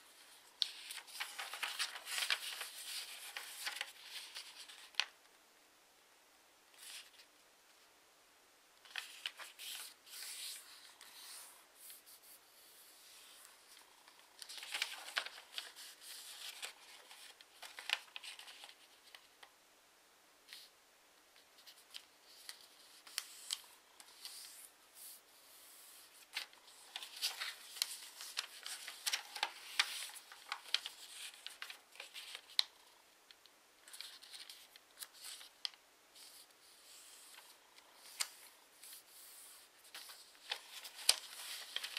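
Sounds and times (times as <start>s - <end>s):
paper rustling and crinkling: 0.0s - 5.2s, 6.8s - 7.3s, 8.8s - 19.5s, 21.4s - 32.8s, 33.8s - 41.9s
paper crackling as creased: 0.1s - 5.1s, 8.9s - 12.0s, 12.9s - 19.3s, 21.6s - 32.7s, 33.8s - 41.9s.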